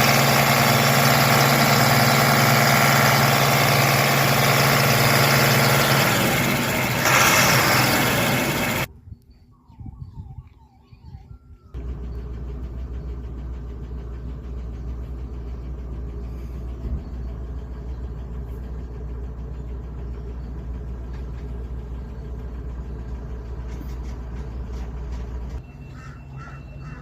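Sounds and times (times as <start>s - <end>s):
vehicle engine idling: 0.0s - 8.9s, 11.8s - 27.0s.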